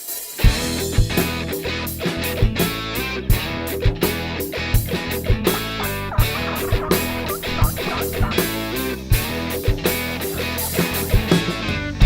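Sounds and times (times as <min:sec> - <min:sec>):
rock music with guitars and drums: 0:00.0 - 0:12.0.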